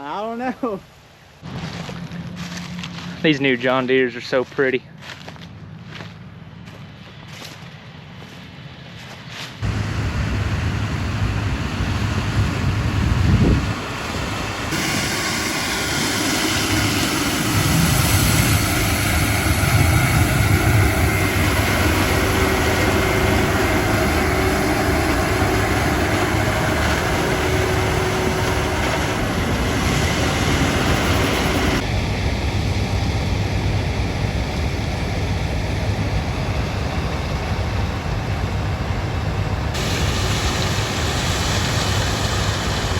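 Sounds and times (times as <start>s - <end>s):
diesel engine running: 1.4s - 42.9s.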